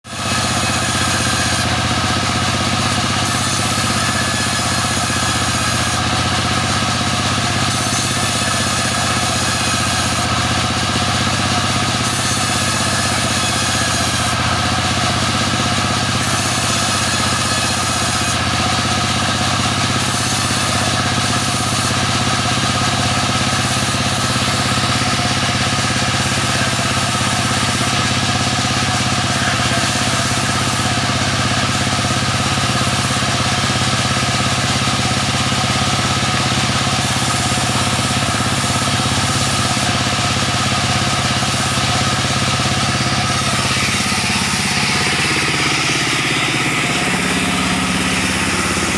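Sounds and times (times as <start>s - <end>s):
sawmill machine engine running: 0.0s - 48.9s.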